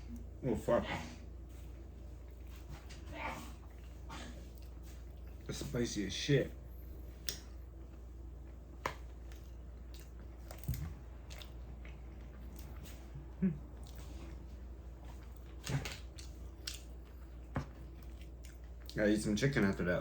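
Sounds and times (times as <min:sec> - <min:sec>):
low steady hum: 0:00.0 - 0:20.0
person chewing fried chicken: 0:01.3 - 0:05.7, 0:06.7 - 0:19.6.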